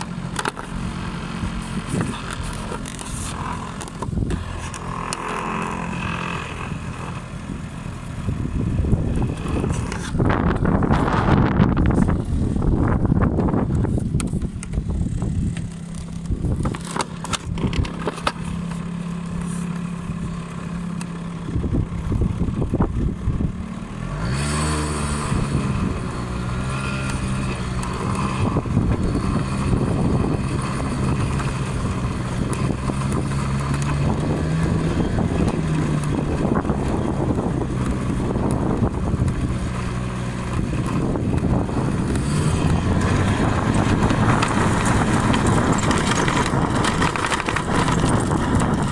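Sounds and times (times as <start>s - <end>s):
scooter engine revving: 0.0s - 48.9s.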